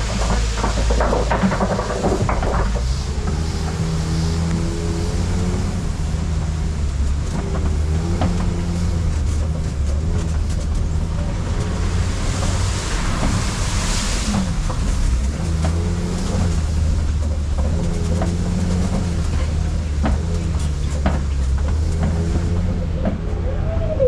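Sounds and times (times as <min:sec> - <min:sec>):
truck engine running: 0:00.0 - 0:24.0
vehicle rattles and knocks: 0:00.0 - 0:24.0.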